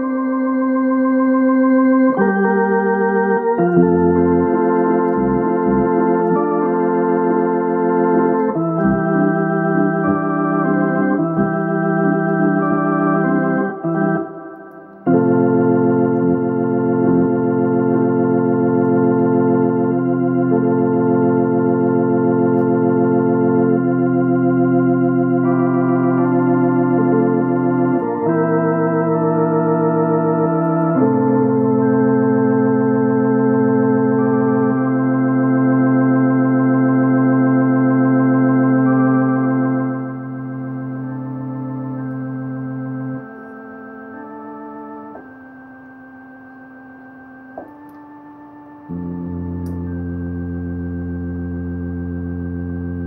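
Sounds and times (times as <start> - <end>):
organ playing sustained chords: 0.0 - 53.0.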